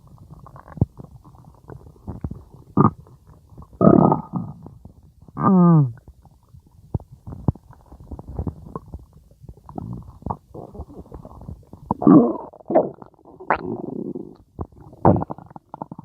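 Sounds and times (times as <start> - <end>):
stomach growling and gurgling: 0.0 - 16.0.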